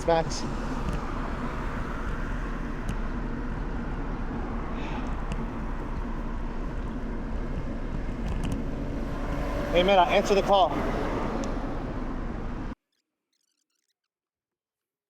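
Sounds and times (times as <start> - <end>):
bicycle tyre road noise: 0.0 - 12.8
wind rush on microphone: 0.0 - 12.8.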